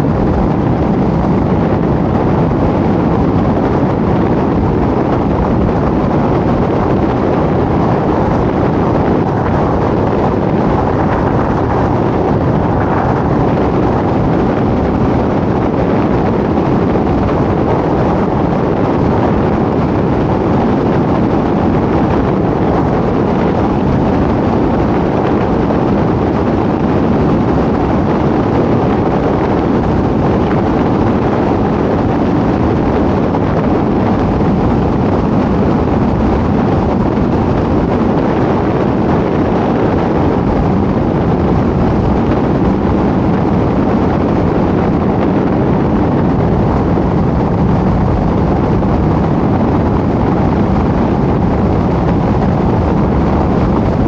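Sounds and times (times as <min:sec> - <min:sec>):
road and wind noise from moving car: 0:00.0 - 0:54.0.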